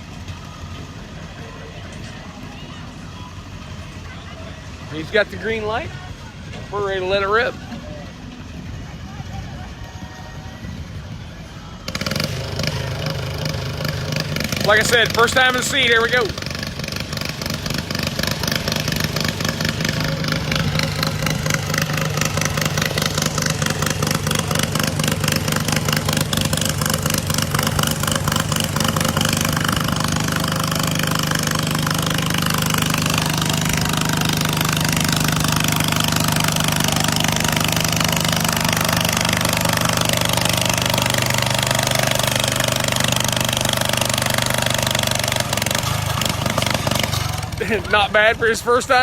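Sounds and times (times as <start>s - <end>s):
tractor engine running under load: 0.0s - 49.0s.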